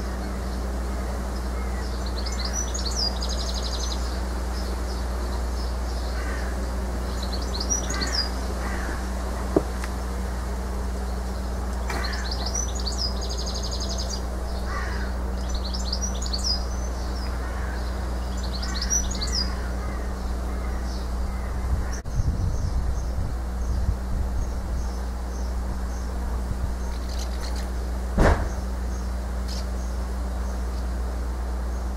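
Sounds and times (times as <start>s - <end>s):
house martins chirping and twittering: 0.0s - 31.9s
low background hum: 0.0s - 31.9s
low rumbling: 0.0s - 31.9s.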